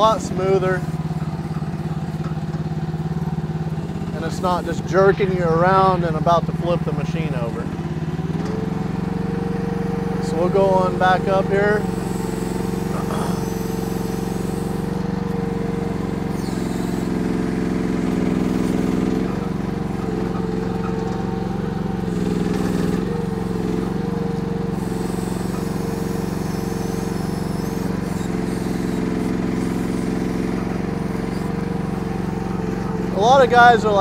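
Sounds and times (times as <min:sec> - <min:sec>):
excavator bucket digging: 0:00.0 - 0:08.8, 0:10.2 - 0:34.0
excavator engine running: 0:00.0 - 0:34.0.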